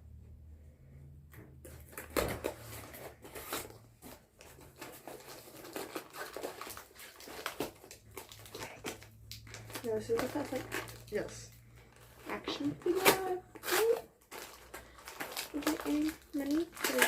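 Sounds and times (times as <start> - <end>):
packaging crackling and rustling: 1.6 - 17.0.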